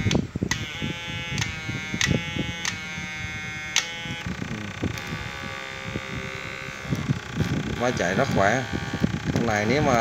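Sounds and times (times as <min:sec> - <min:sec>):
electric inverter buzz: 0:00.0 - 0:10.0
sharp electric clicks: 0:00.0 - 0:10.0.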